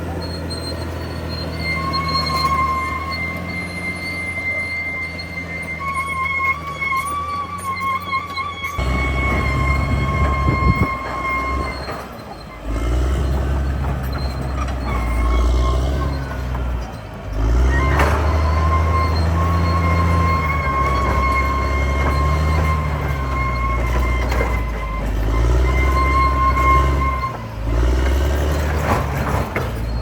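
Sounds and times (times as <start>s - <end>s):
bulldozer diesel engine under load: 0.0s - 30.0s
high-pitched machine squeal: 0.1s - 30.0s.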